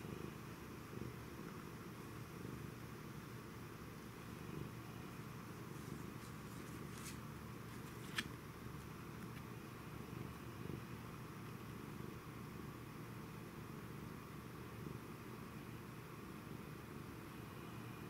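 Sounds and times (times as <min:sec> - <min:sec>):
cat purring: 0:00.0 - 0:08.0, 0:08.6 - 0:18.0.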